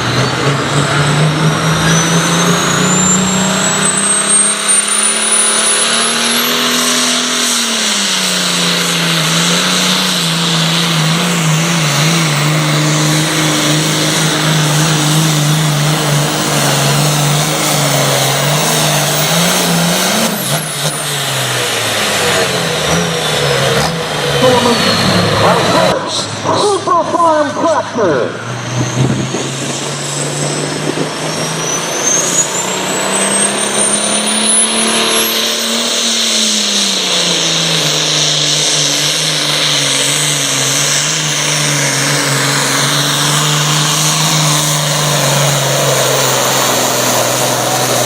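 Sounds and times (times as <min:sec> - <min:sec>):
tractor diesel engine running hard: 0:00.0 - 0:48.0.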